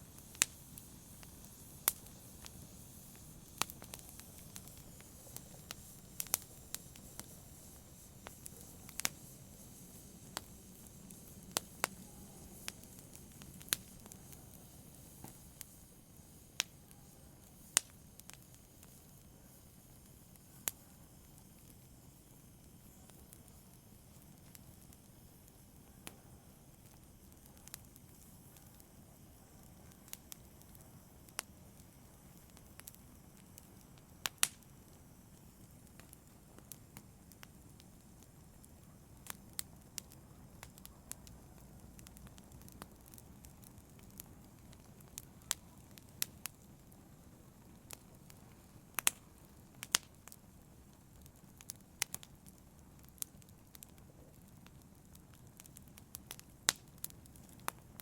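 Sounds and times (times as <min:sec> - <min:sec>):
fire crackling and popping: 0:00.0 - 0:58.0
rush of flame: 0:00.0 - 0:58.0.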